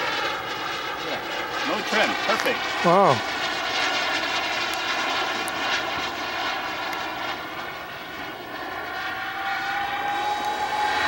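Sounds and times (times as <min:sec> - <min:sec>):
model jet engine whining: 0:00.0 - 0:11.0.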